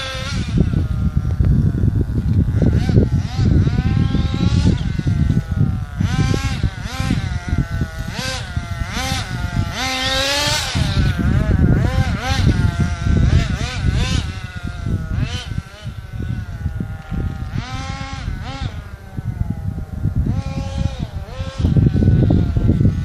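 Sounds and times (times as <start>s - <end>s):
toy truck engine revving: 0.0s - 23.0s.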